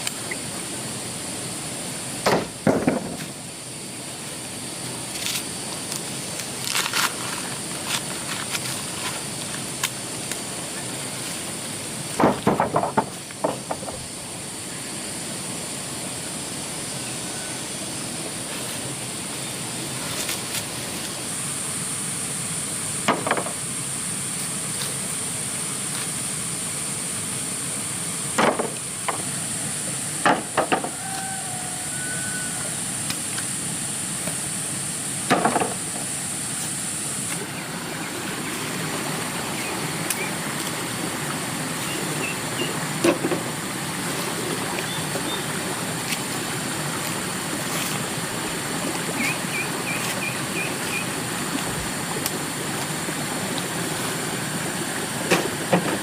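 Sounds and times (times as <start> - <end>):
outdoor hiss: 0.0 - 56.0.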